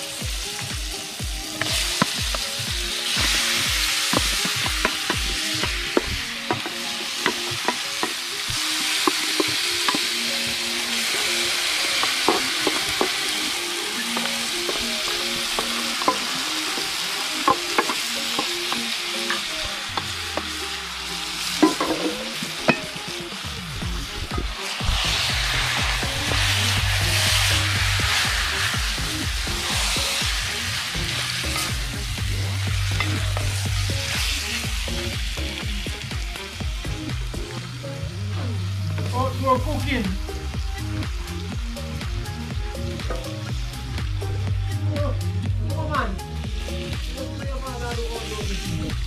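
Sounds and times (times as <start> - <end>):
meat sizzling in hot oil: 0.0 - 45.4, 46.0 - 49.0.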